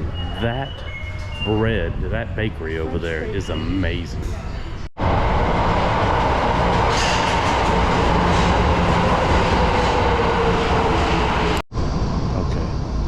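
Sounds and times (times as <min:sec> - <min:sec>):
subway train on rails: 0:00.0 - 0:13.0.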